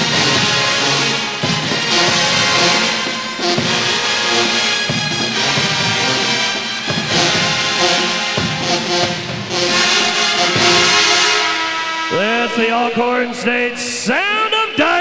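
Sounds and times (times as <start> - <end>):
cymbals: 0.0 - 15.0
pep band playing brass tune: 0.0 - 15.0.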